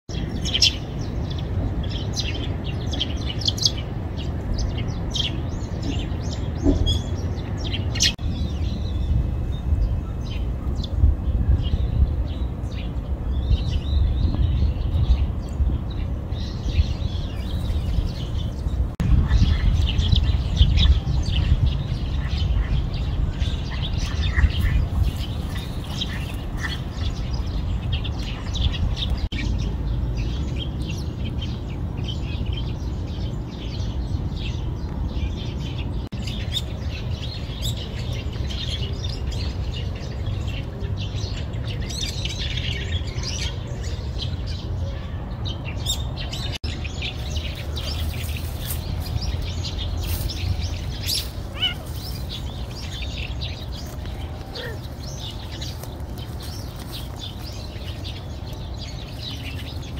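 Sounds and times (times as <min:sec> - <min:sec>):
small birds chirping: 0:00.1 - 0:59.9
steady low rumble: 0:00.2 - 0:59.9.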